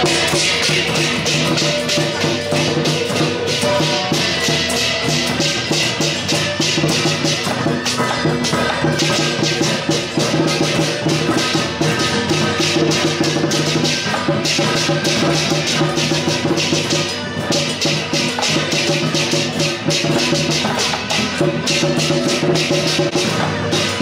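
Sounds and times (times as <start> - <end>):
loud music with fast beat: 0.0 - 24.0.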